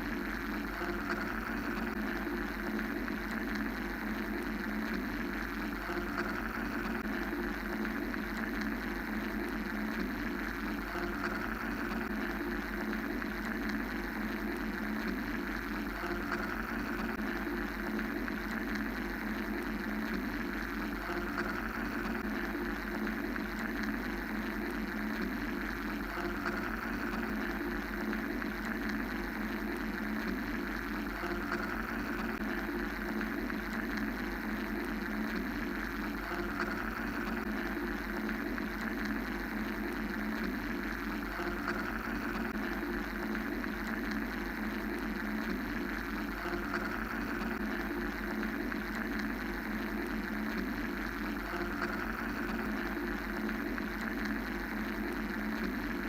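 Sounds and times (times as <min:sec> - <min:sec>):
low mechanical hum: 0:00.0 - 0:56.0
white noise hiss: 0:00.0 - 0:56.0.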